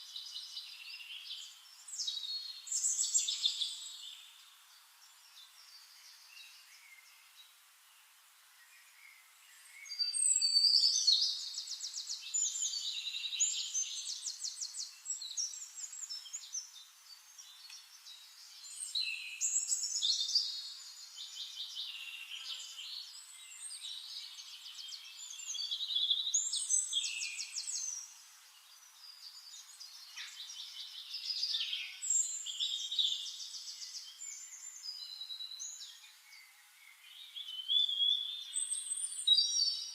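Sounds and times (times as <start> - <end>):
songbird trills and chirps: 0.0 - 39.9.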